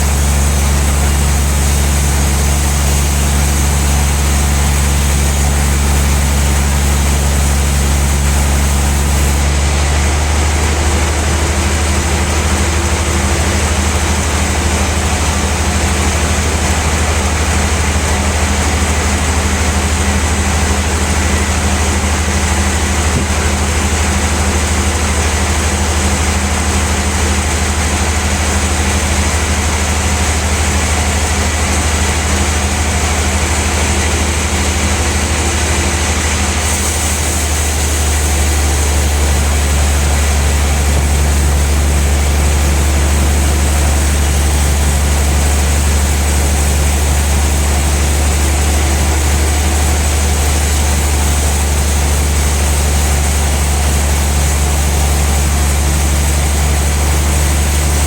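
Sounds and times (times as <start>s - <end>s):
band saw machinery humming: 0.0s - 58.0s.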